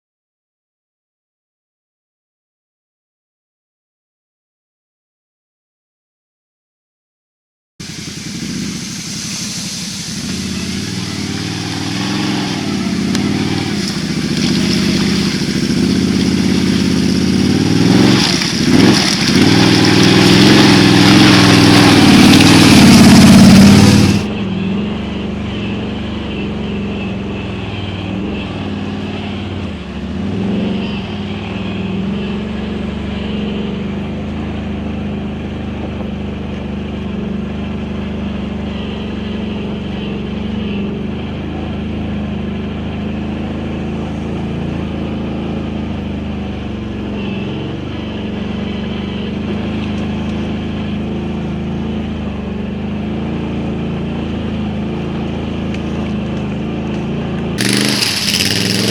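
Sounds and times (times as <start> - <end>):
atv engine revving: 10.1 - 58.9.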